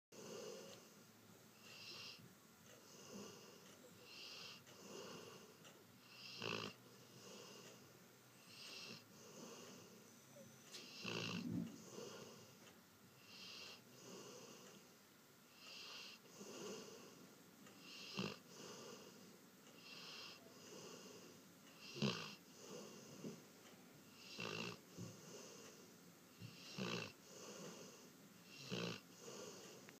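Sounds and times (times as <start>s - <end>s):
snoring with wheezy whistle: 0.2s - 0.9s, 1.6s - 2.2s, 2.8s - 7.8s, 8.4s - 14.8s, 15.5s - 17.2s, 17.8s - 23.4s, 24.2s - 25.8s, 26.4s - 30.0s.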